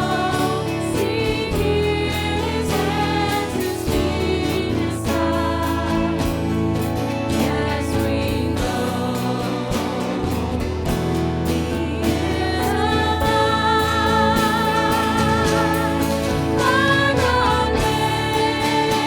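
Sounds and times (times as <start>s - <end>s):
worship music singing: 0.0s - 19.0s.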